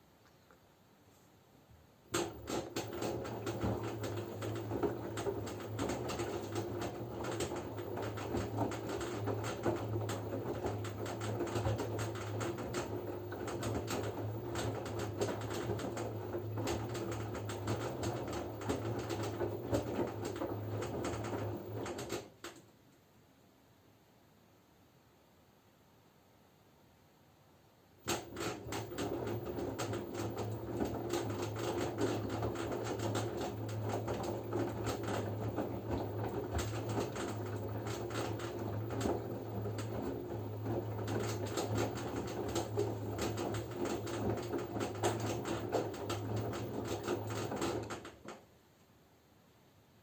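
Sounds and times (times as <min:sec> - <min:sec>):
washing machine motor hum: 0:02.0 - 0:22.6, 0:28.0 - 0:48.5
wet laundry tumbling: 0:02.1 - 0:22.2, 0:28.0 - 0:48.3.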